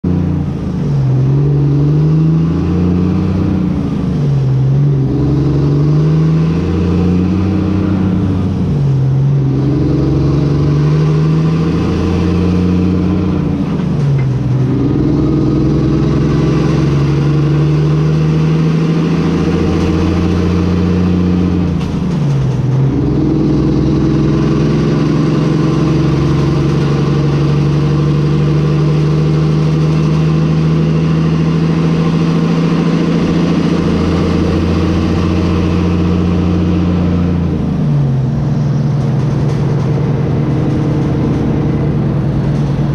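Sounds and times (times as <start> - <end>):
diesel truck engine accelerating: 0.0 - 42.9.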